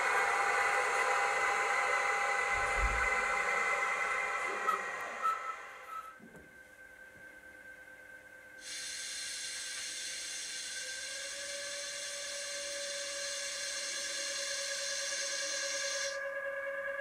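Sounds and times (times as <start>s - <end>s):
hiss of blowers: 0.0s - 6.1s, 8.6s - 16.4s
electric hum: 0.0s - 17.0s.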